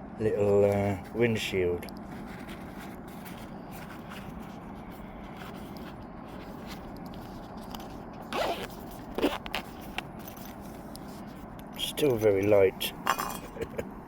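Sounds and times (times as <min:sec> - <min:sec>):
low background rush: 0:00.0 - 0:14.0.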